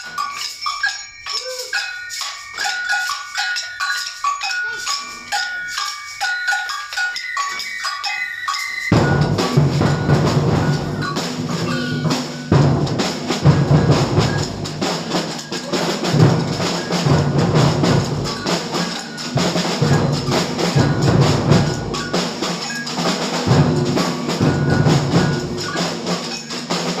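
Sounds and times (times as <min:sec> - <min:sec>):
high tuned percussion notes: 0:00.0 - 0:27.0.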